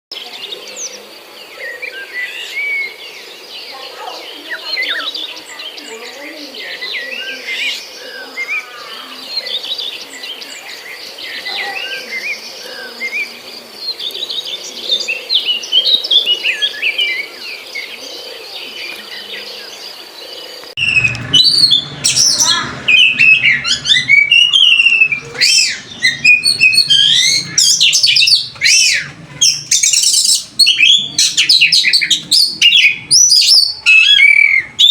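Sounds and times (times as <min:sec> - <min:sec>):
bird chirping and twittering: 0:00.4 - 0:17.9, 0:18.7 - 0:34.9.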